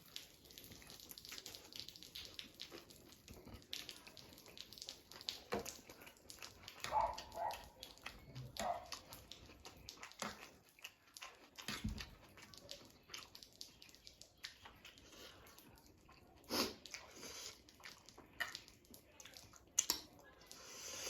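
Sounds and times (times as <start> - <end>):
wet chewing and slurping: 0.0 - 21.0.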